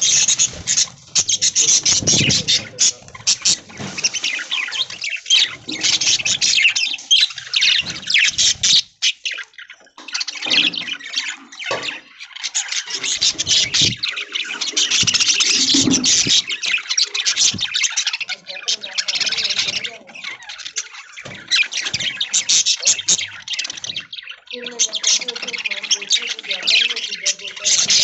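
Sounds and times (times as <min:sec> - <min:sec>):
budgerigars chirping and squawking: 0:00.0 - 0:28.0.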